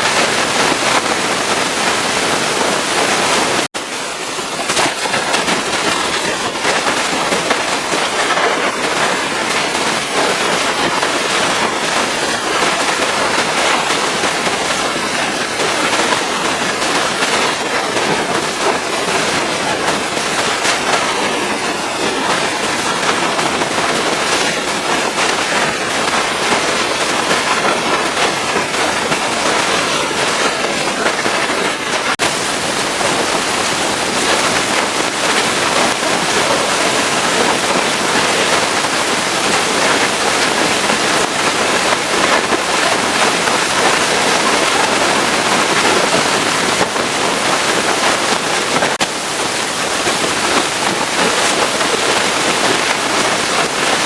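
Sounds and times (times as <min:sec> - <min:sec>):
pressure washer spraying: 0:00.0 - 0:54.0.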